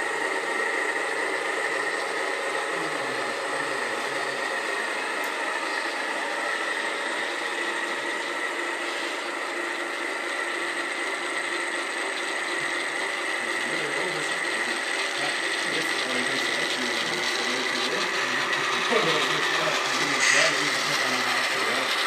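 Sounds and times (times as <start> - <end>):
small electric motor whining: 0.0 - 22.0.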